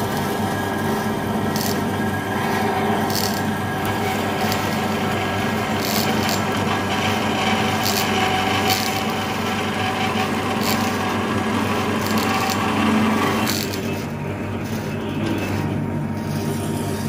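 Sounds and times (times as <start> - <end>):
band saw cutting metal: 0.0 - 17.0
machine hum: 0.0 - 17.0.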